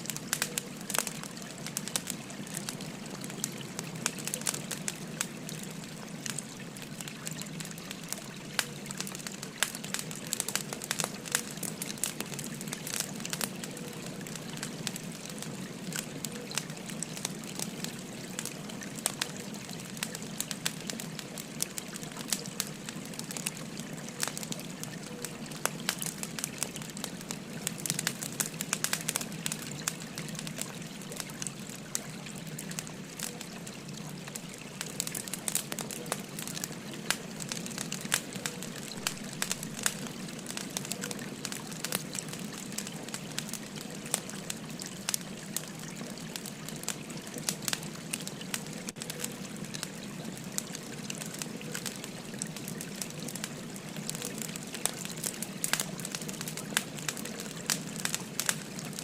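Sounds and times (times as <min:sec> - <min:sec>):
firewood crackling and popping: 0:00.0 - 0:59.0
river trickling: 0:00.0 - 0:59.0.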